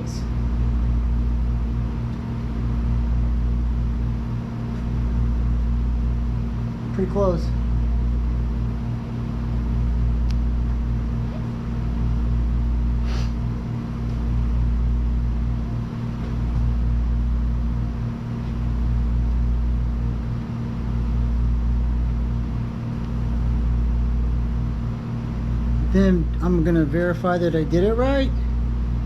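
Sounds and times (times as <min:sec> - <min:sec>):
machine hum and rumble: 0:00.0 - 0:29.0.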